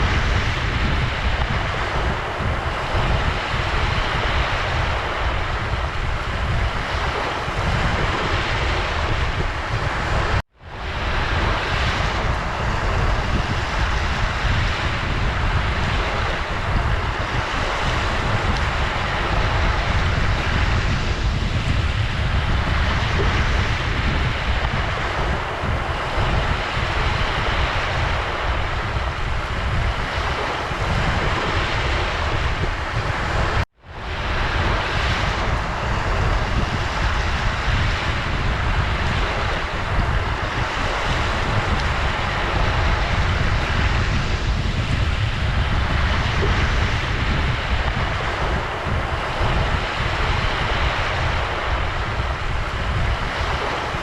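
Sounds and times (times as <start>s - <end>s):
ocean surf washing ashore: 0.0s - 54.0s.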